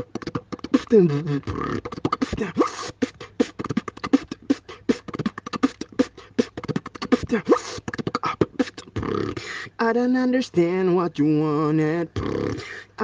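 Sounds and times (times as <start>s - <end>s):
beatboxing: 0.0s - 9.6s, 12.0s - 13.0s.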